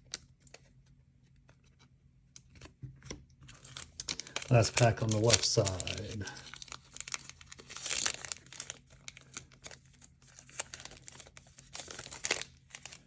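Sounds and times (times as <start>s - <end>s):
plastic wrapper crinkling and tearing: 2.4s - 13.0s.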